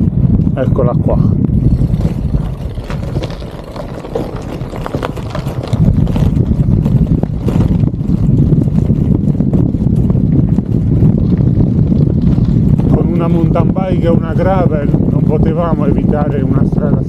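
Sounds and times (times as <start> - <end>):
bike tyres rumbling on gravel: 0.0 - 17.0
bike clicks and rattles: 1.6 - 16.1.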